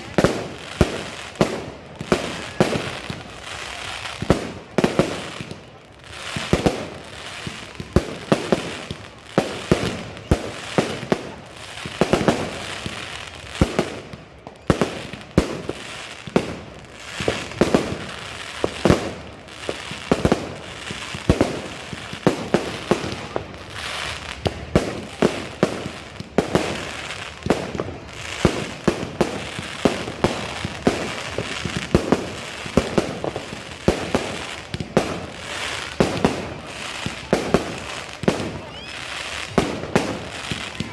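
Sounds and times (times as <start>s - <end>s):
fireworks bangs and pops: 0.0s - 40.9s
fireworks crackling: 0.0s - 40.9s.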